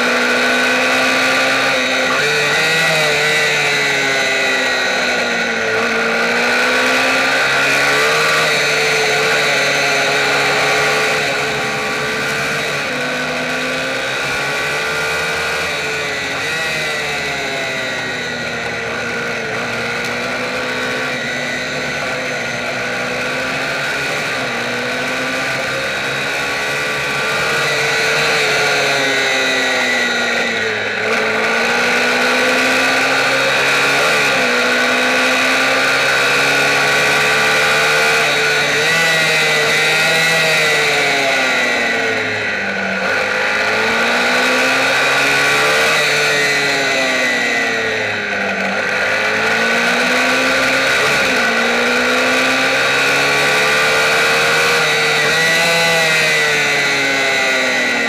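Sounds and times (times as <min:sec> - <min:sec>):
racing motorcycle engine revving: 0:00.0 - 0:58.0.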